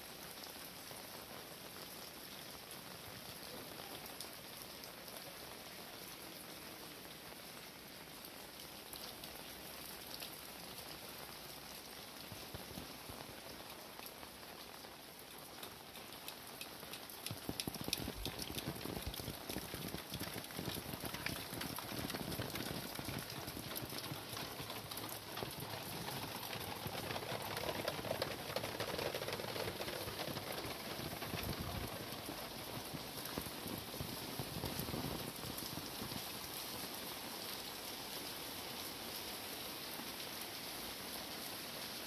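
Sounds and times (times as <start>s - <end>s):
raindrops ticking on surfaces: 0.0s - 42.0s
steady rain falling: 0.0s - 42.0s.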